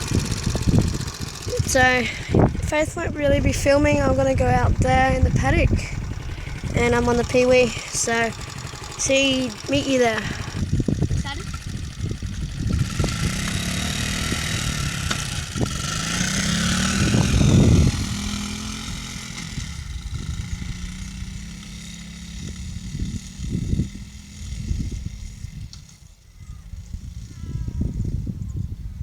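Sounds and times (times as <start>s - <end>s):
dirt bike engine revving: 0.0s - 28.2s.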